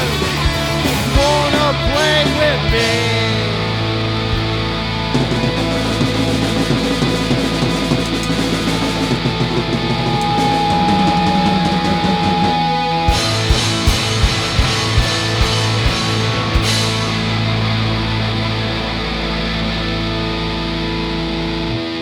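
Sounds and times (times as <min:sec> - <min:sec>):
instrumental rock music with guitar: 0:00.0 - 0:22.0.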